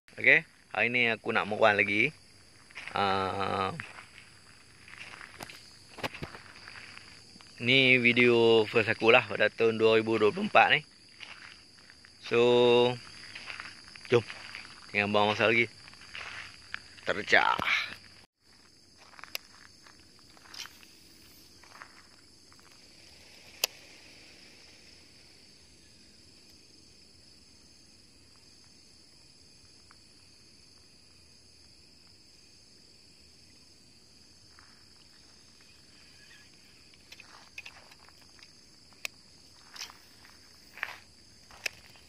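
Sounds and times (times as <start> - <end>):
high-pitched insect chorus: 0.1 - 42.0.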